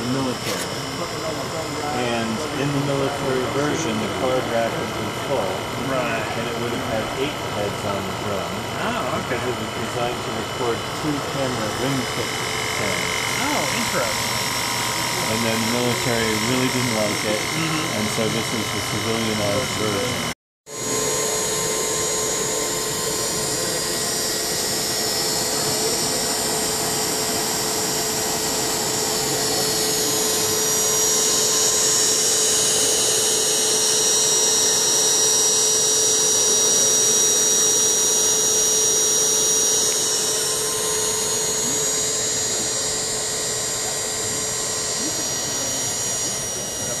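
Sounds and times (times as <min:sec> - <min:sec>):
tape recorder whine and hiss: 0:00.0 - 0:47.0.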